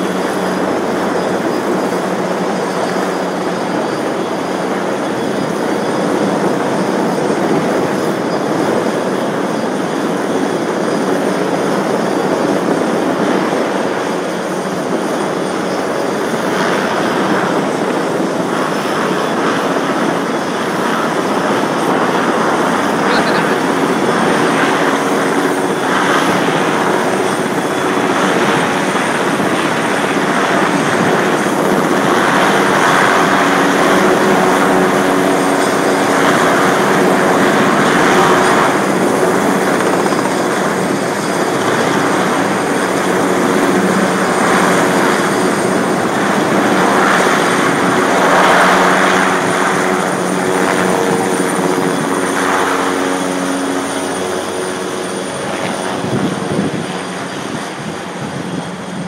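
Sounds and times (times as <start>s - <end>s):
helicopter rotor and engine noise: 0.0s - 59.0s.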